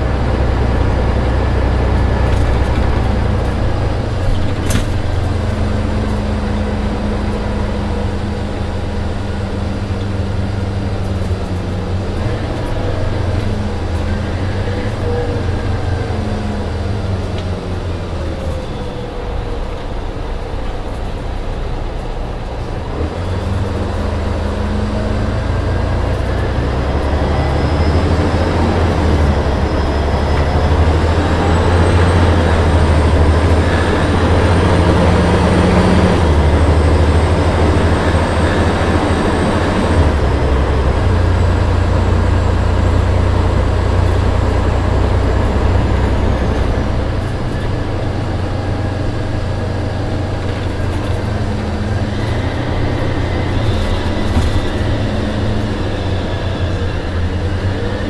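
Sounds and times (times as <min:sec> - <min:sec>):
diesel coach engine drone: 0:00.0 - 0:58.0.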